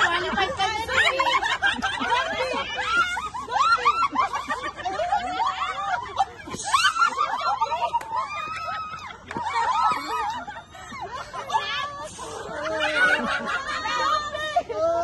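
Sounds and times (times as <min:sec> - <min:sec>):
excited chatter: 0:00.0 - 0:15.0
women laughing and shrieking: 0:00.0 - 0:15.0.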